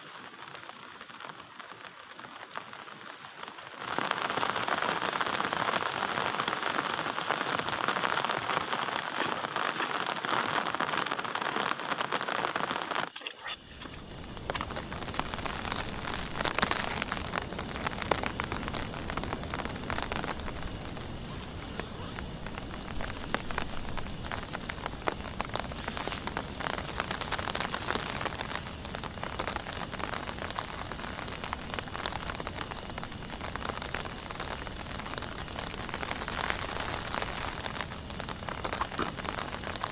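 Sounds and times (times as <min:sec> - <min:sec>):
heavy rain falling: 0:00.0 - 0:39.9
rain drops ticking on surface: 0:00.0 - 0:39.9.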